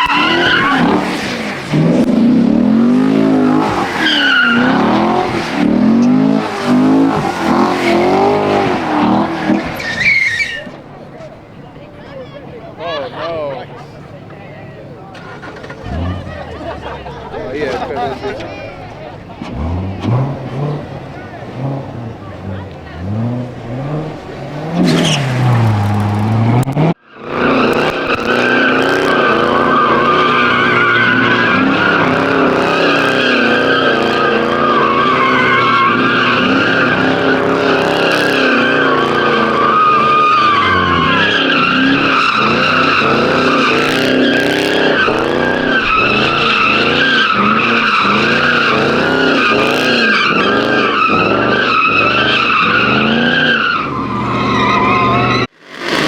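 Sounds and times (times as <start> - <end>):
high-revving car engine: 0.0 - 11.0, 13.1 - 56.0
tyres squealing: 0.0 - 55.5.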